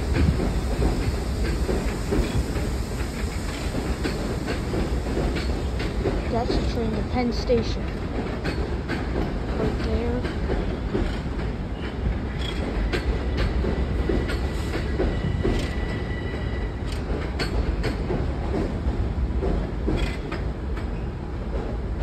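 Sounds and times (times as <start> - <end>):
wheels clacking over rail joints: 0.0 - 16.0, 16.8 - 21.8
train rumbling on tracks: 0.0 - 22.0.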